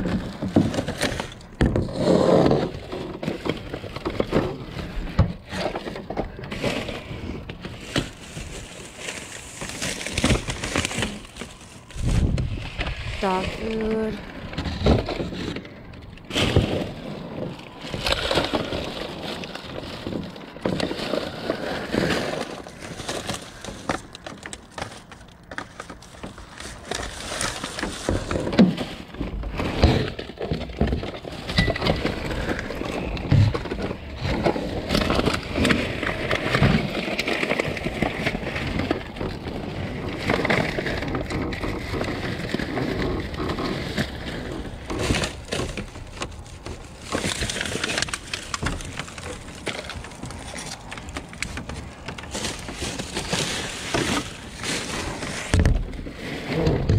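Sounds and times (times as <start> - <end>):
items knocking and clunking: 0.0 - 56.9
plastic bags rustling: 0.0 - 56.9.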